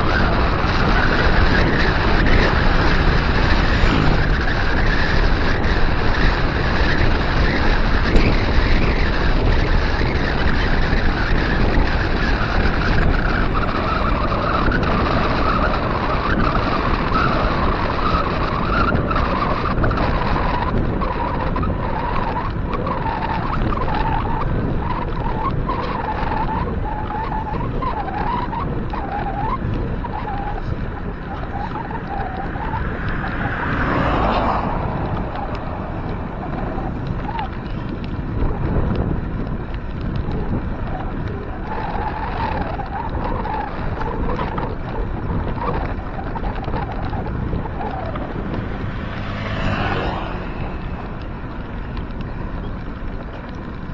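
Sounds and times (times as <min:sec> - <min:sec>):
wavering whine: 0:00.0 - 0:39.0, 0:39.6 - 0:53.9
tyres humming on pavement: 0:00.0 - 0:53.9
wind rushing over microphone: 0:00.0 - 0:53.9.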